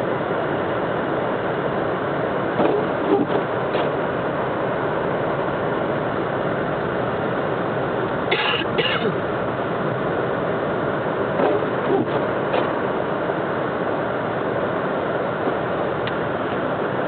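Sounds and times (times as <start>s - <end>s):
car engine and tyres on snow: 0.0s - 17.0s.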